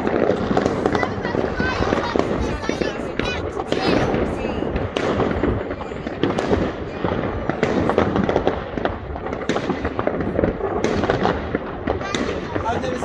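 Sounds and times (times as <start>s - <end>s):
distant firework bangs and crackles: 0.0s - 13.0s
loud firework bangs: 0.0s - 13.0s.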